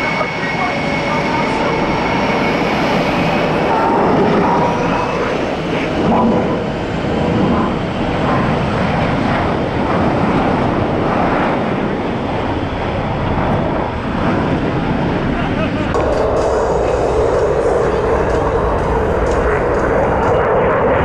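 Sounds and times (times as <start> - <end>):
faint turbine whine: 0.0 - 21.0
jet engines taxiing: 0.0 - 21.0.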